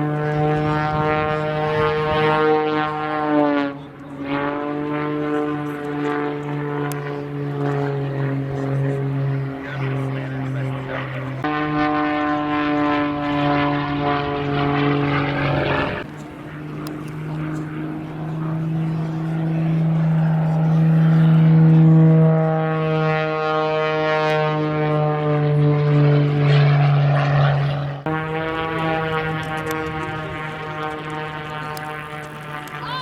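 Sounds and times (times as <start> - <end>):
propeller airplane engine droning: 0.0 - 33.0.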